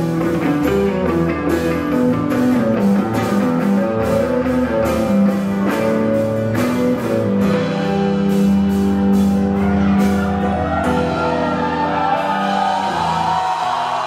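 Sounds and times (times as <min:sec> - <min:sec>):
drums: 0:00.0 - 0:14.0
electric guitar: 0:00.0 - 0:14.0
rock band playing: 0:00.0 - 0:14.0.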